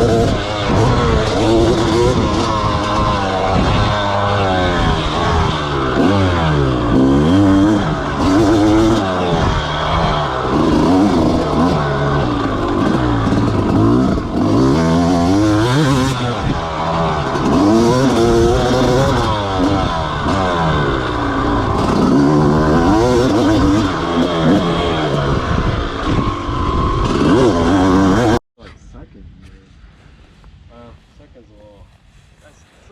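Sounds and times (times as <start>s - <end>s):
motocross bike engine revving: 0.0s - 28.4s.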